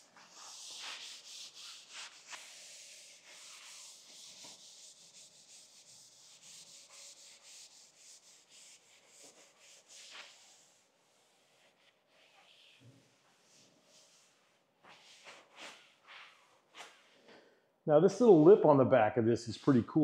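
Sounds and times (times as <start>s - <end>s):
cloth wiping table top: 0.0s - 17.2s.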